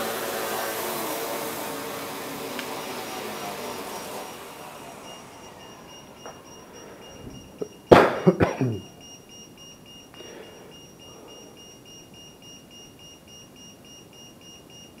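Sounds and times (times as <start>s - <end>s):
high electronic beeps: 2.8s - 15.0s.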